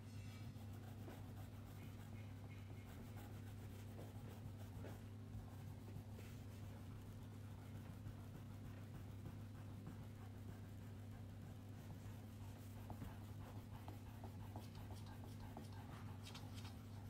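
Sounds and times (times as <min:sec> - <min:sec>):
crayon scratching on paper: 0:00.4 - 0:17.0.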